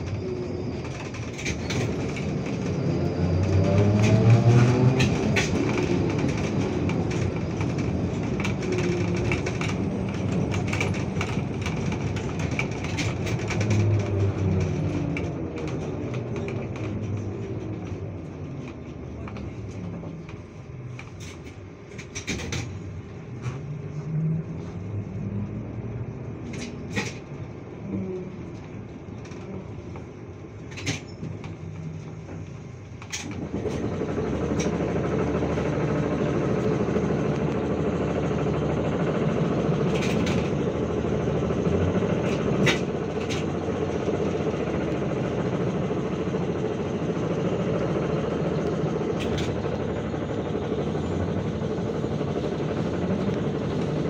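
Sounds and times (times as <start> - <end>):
bus body rattling: 0.0 - 54.0
road and tyre noise: 0.0 - 54.0.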